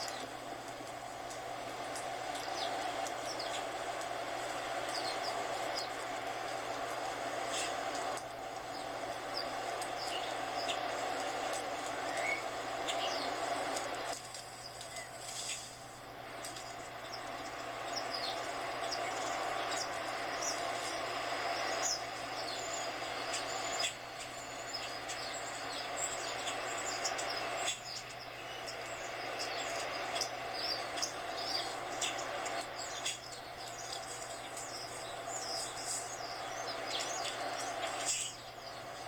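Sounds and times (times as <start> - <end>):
birds chirping and tweeting: 0.0 - 39.0
outdoor background hiss: 0.0 - 39.0.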